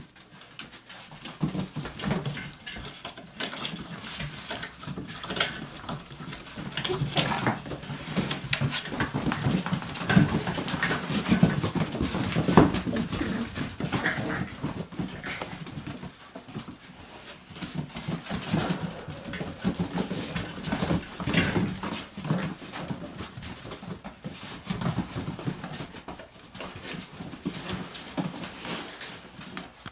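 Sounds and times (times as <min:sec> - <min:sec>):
paws clicking on wooden floor: 0:00.0 - 0:29.9.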